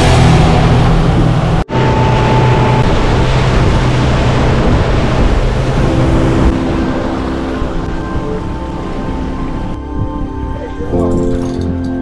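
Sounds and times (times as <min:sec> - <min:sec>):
boat pushing through water: 0:00.0 - 0:12.0.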